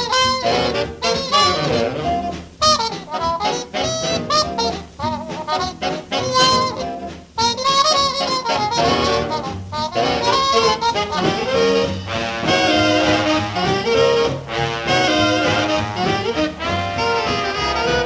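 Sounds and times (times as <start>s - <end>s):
swing big band playing: 0.0s - 18.0s.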